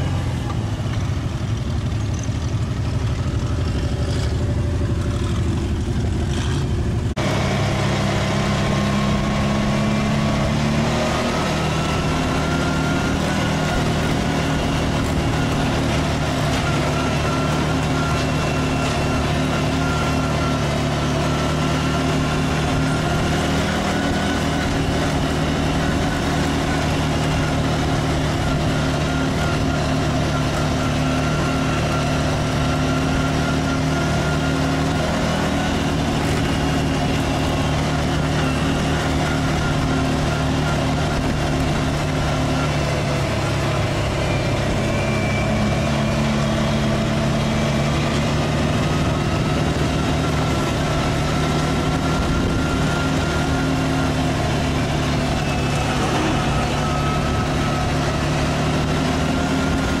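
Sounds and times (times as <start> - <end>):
vehicle engine running: 0.0 - 60.0.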